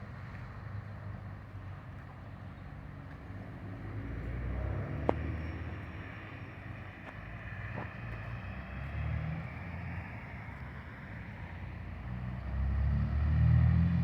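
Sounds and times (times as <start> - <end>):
truck diesel engine rumbling: 0.0 - 12.7.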